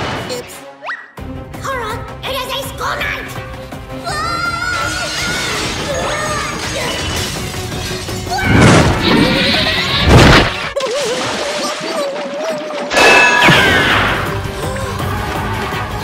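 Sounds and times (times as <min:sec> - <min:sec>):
music: 0:00.0 - 0:10.8, 0:13.4 - 0:16.0.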